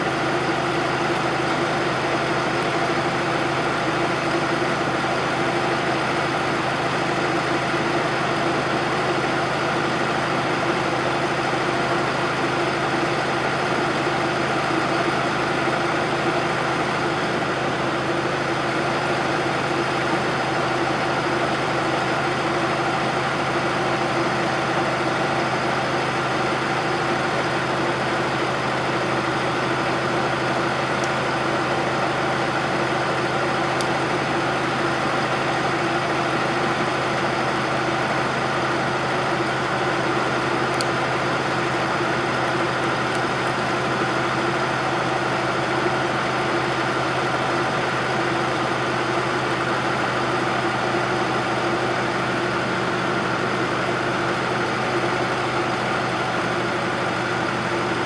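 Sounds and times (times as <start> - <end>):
gasoline engine running steadily: 0.0 - 58.0.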